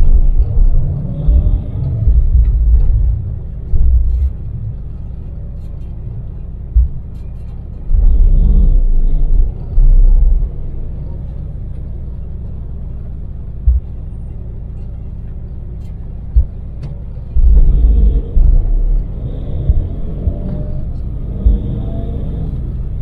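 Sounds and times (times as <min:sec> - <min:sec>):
engine and road rumble: 0:00.0 - 0:23.0
loud low rumble: 0:00.0 - 0:23.0.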